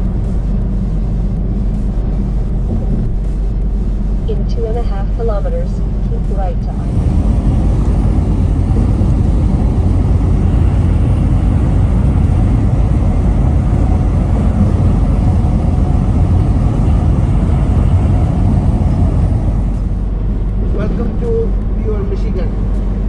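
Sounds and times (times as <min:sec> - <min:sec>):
truck engine rumble: 0:00.0 - 0:23.0.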